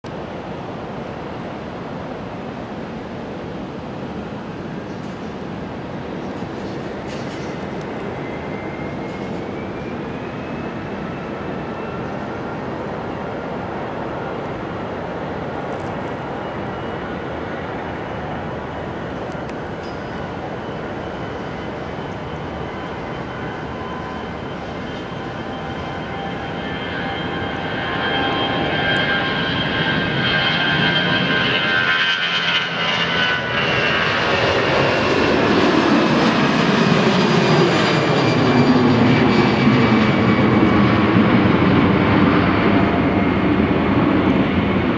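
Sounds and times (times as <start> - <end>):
jet engines at takeoff: 0.0 - 44.9.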